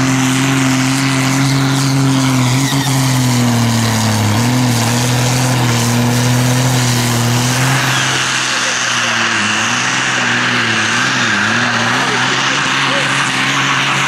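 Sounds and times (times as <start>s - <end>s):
tractor engine under heavy load: 0.0s - 14.0s.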